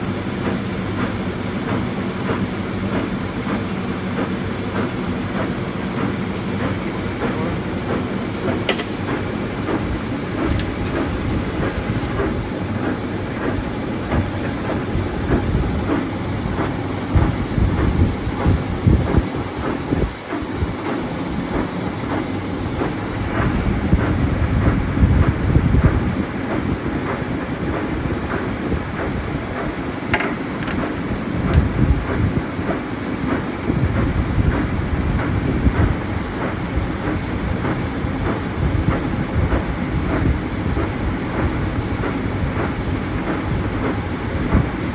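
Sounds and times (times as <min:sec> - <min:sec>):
lathe running rumble: 0:00.0 - 0:44.9
rhythmic clicking from drive: 0:00.0 - 0:44.9.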